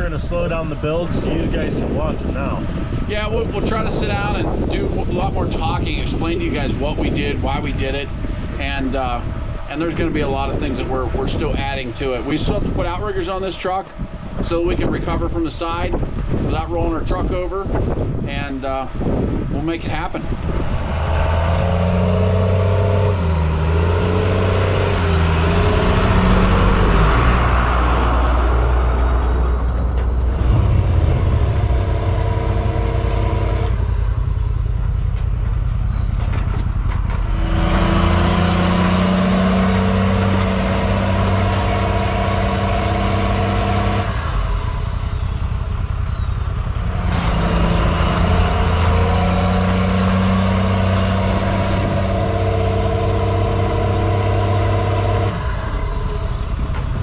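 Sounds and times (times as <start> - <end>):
diesel truck engine under load: 0.0 - 57.0
high whine: 0.0 - 57.0.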